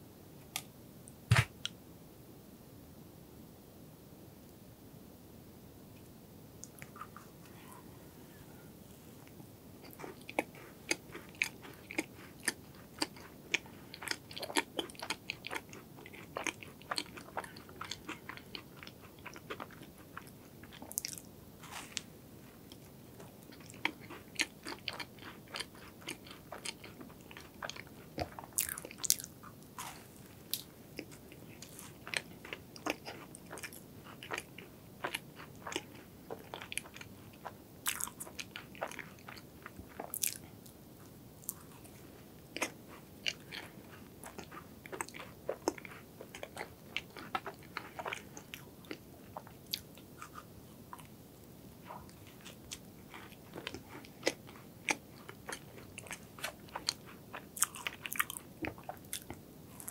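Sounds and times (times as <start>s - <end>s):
chewing soft food: 9.2s - 59.9s.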